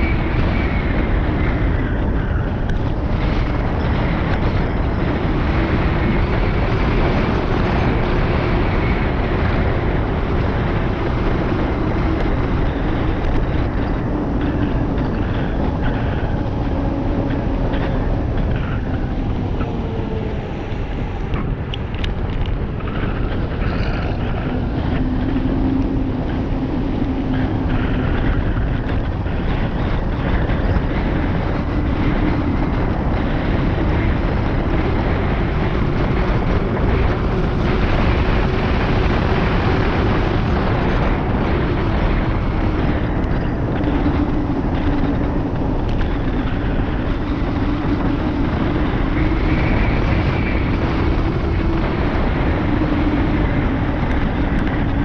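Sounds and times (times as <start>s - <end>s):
low hum: 0.0s - 55.0s
wind rush on microphone: 0.0s - 55.0s.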